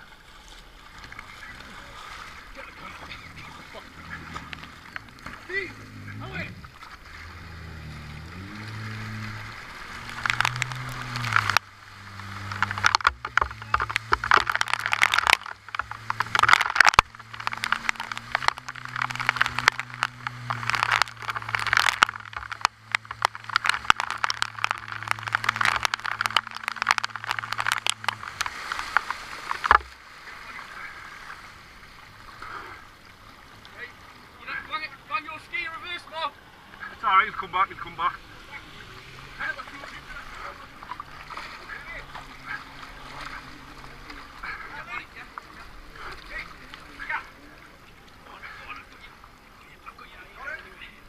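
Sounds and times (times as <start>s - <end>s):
water rushing and splashing: 0.0s - 51.0s
jet ski engine running: 1.2s - 49.1s.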